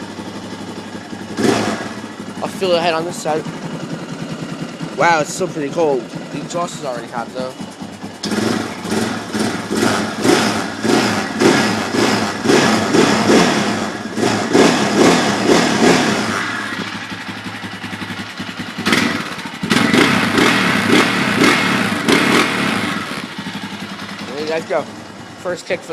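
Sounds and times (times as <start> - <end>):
engine running: 0.0 - 25.9.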